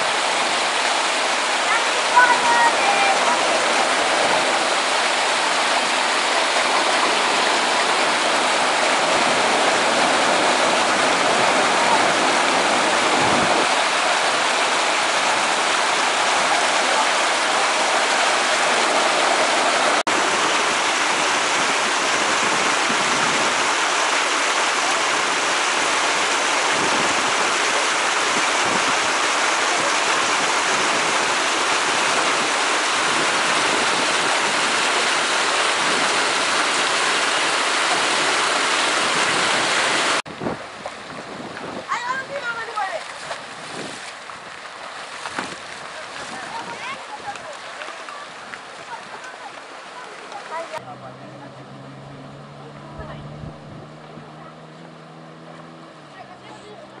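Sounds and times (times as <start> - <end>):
water rushing through channel: 0.0 - 57.0.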